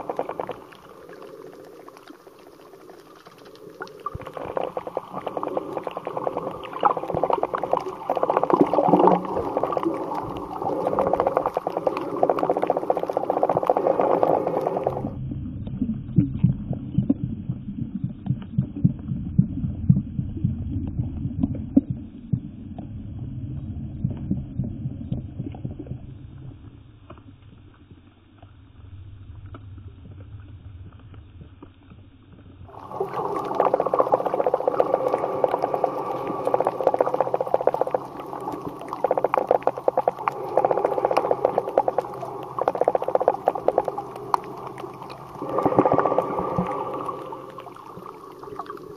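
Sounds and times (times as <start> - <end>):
crackling clicks underwater: 0.0 - 48.9
underwater water movement rumble: 0.0 - 48.9.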